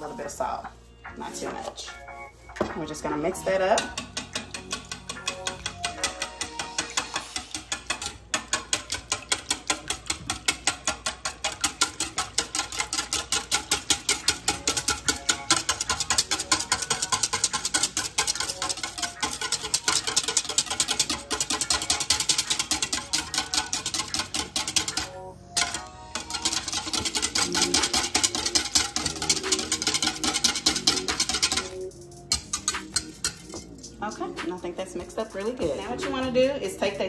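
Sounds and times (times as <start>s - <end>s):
whisk beating in metal bowl: 2.6s - 36.9s.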